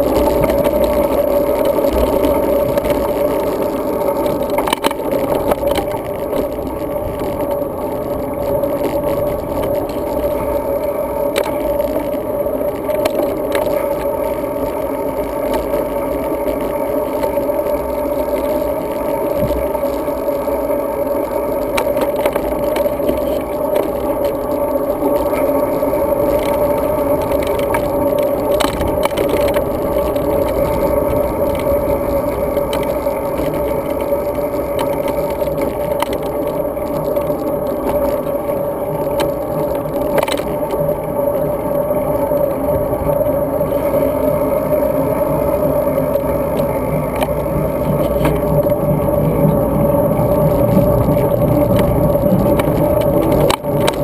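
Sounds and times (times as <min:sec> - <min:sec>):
bike riding hum and rumble: 0:00.0 - 0:54.0
small clicks and rattles: 0:00.0 - 0:54.0.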